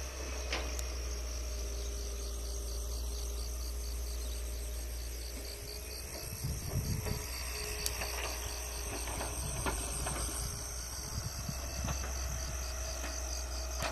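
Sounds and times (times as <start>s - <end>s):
insects chirping: 0.0s - 13.9s
low steady rumble: 0.0s - 13.9s.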